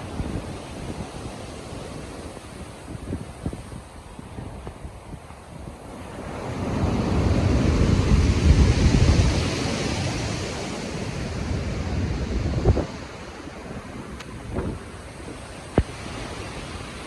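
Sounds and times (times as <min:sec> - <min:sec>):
stormy sea waves breaking: 0:00.0 - 0:17.0.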